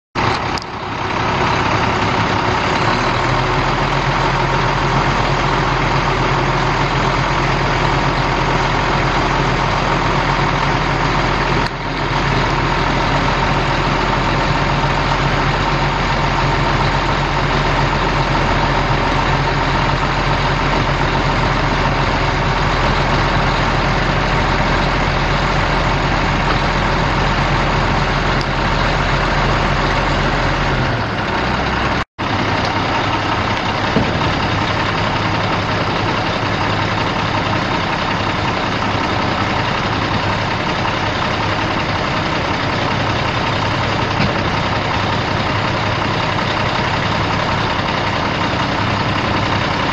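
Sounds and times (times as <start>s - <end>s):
diesel truck engine idling: 0.2s - 49.9s.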